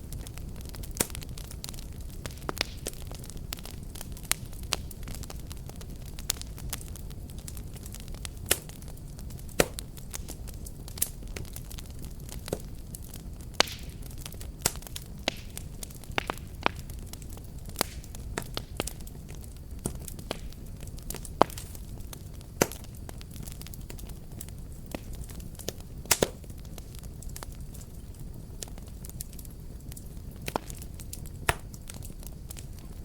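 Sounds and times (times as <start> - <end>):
low rush of flames: 0.0 - 33.0
wood fire crackling: 0.0 - 33.0.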